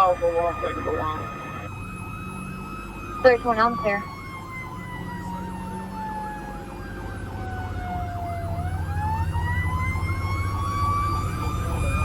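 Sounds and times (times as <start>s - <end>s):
fire truck engine rumbling: 0.0s - 12.0s
wailing siren: 0.0s - 12.0s
yelping siren: 0.0s - 12.0s.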